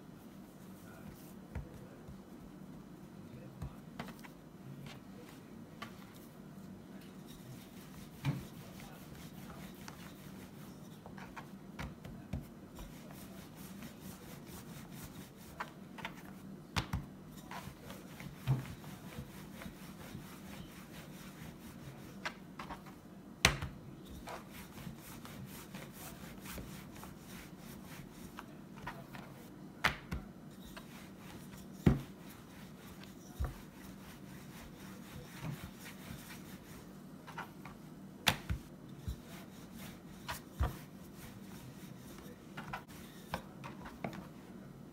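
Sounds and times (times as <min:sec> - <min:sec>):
rolling pin rubbing on dough: 0:05.3 - 0:16.5, 0:17.3 - 0:23.0, 0:24.1 - 0:29.5, 0:30.5 - 0:44.4.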